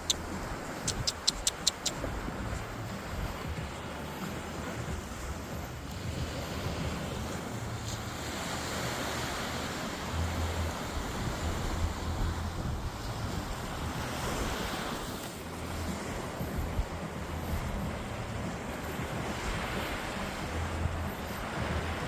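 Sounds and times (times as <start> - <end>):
sea waves washing onto beach: 0.0 - 22.0
wind rumbling on microphone: 0.0 - 22.0.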